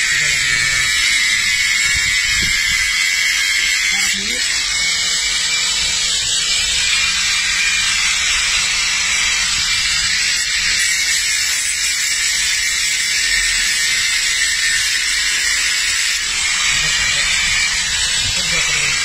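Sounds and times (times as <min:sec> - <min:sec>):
angle grinder running: 0:00.0 - 0:19.0.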